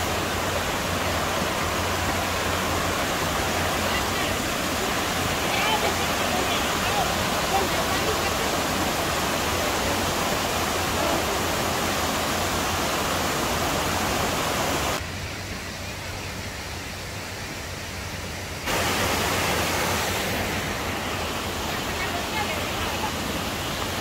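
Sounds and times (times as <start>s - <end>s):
water rushing over stone steps: 0.0s - 24.0s.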